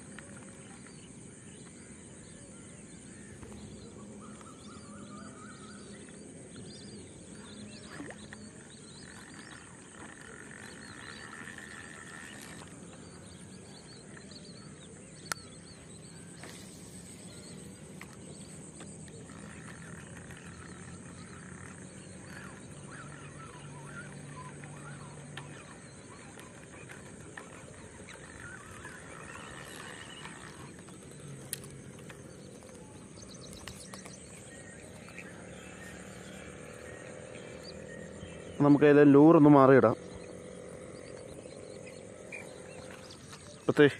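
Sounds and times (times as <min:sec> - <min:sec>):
birds calling: 0:00.0 - 0:43.9
frogs calling: 0:00.0 - 0:43.9
steady high hum: 0:00.0 - 0:43.9.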